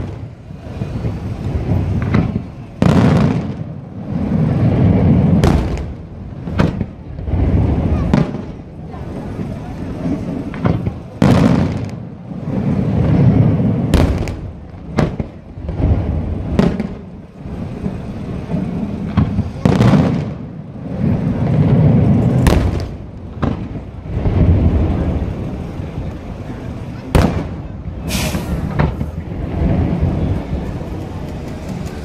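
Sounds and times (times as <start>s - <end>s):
low rumbles: 0.0s - 32.0s.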